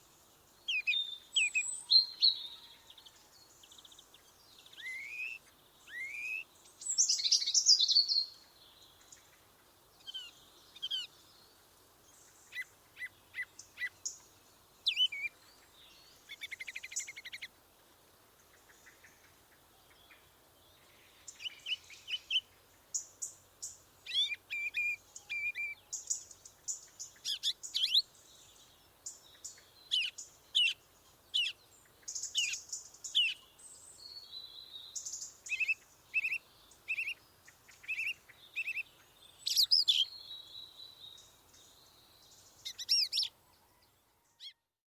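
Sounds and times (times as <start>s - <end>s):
songbirds singing and chirping: 0.0s - 44.8s.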